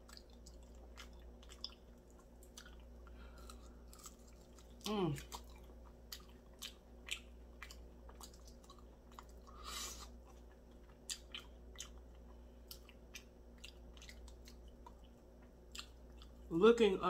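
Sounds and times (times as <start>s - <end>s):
person chewing: 0.0s - 16.5s.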